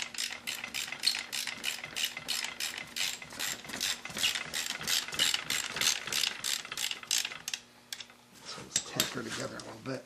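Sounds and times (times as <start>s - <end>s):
ratchet wrench clicking: 0.0s - 8.1s.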